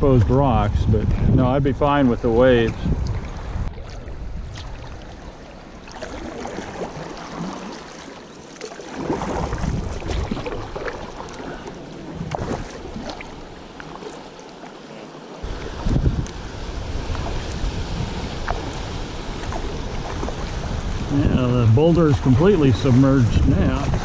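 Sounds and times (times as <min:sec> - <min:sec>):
moving water wash: 0:00.0 - 0:24.0
paddle splashing in water: 0:02.6 - 0:21.1, 0:21.8 - 0:24.0.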